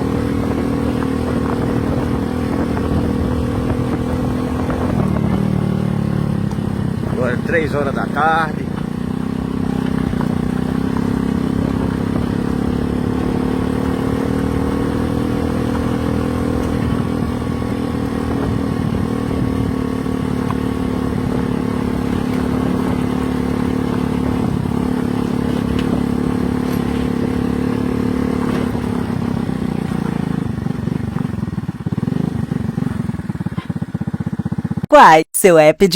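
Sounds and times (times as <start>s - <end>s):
road and wind noise: 0.0s - 34.9s
vehicle engine running: 0.0s - 34.9s.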